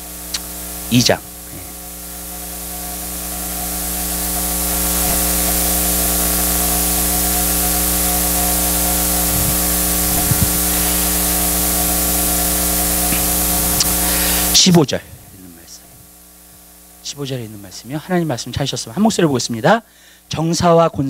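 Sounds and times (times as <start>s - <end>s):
electrical hiss: 0.0s - 21.0s
mains hum: 0.0s - 21.0s.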